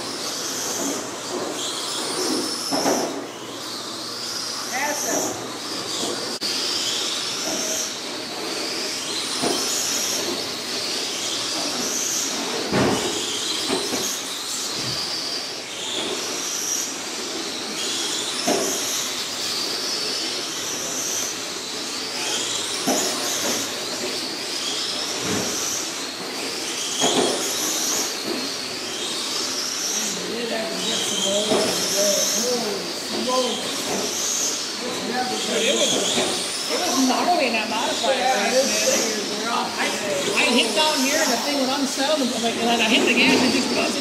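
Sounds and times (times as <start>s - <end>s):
electric toy car motors whining: 0.0s - 44.0s.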